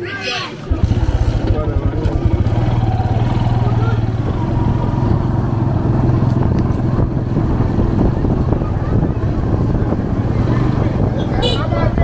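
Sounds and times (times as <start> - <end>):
vehicle engine running: 0.7 - 12.0.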